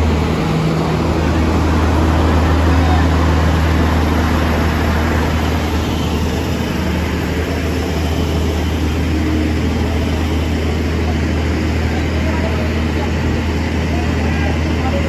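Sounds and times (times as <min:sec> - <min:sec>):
bus engines running low: 0:00.0 - 0:15.0.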